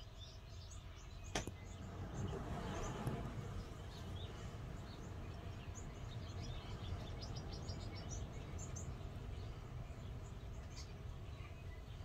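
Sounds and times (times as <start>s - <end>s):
small birds chirping: 0.0s - 12.0s
wind rumbling on microphone: 0.2s - 12.0s.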